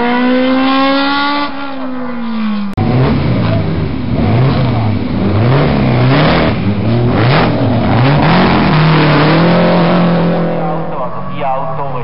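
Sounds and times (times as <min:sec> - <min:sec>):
racing car engine revving: 0:00.0 - 0:12.0.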